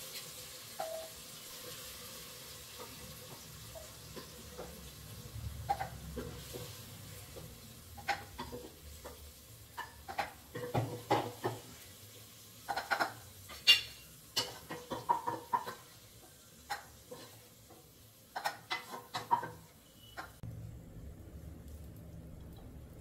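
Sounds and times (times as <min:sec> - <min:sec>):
light frying sizzle: 0:00.0 - 0:23.0.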